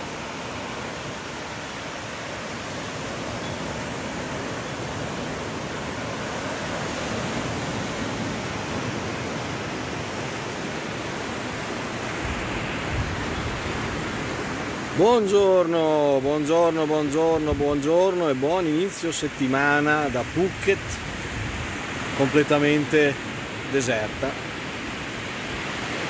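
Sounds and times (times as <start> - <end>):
waves breaking on sand: 0.0 - 26.0.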